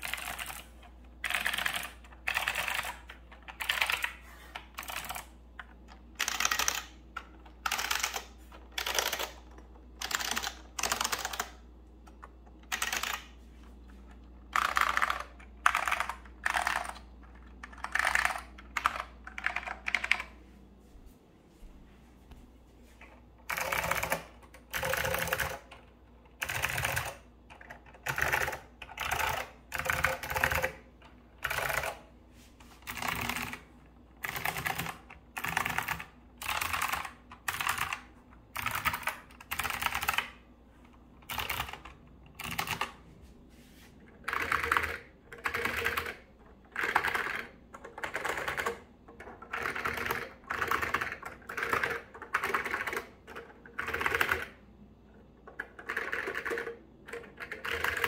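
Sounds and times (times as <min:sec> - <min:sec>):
mechanical keyboard typing: 0:00.0 - 0:13.4, 0:14.0 - 0:20.4, 0:23.4 - 0:32.1, 0:32.8 - 0:40.4, 0:41.2 - 0:43.0, 0:44.1 - 0:58.0.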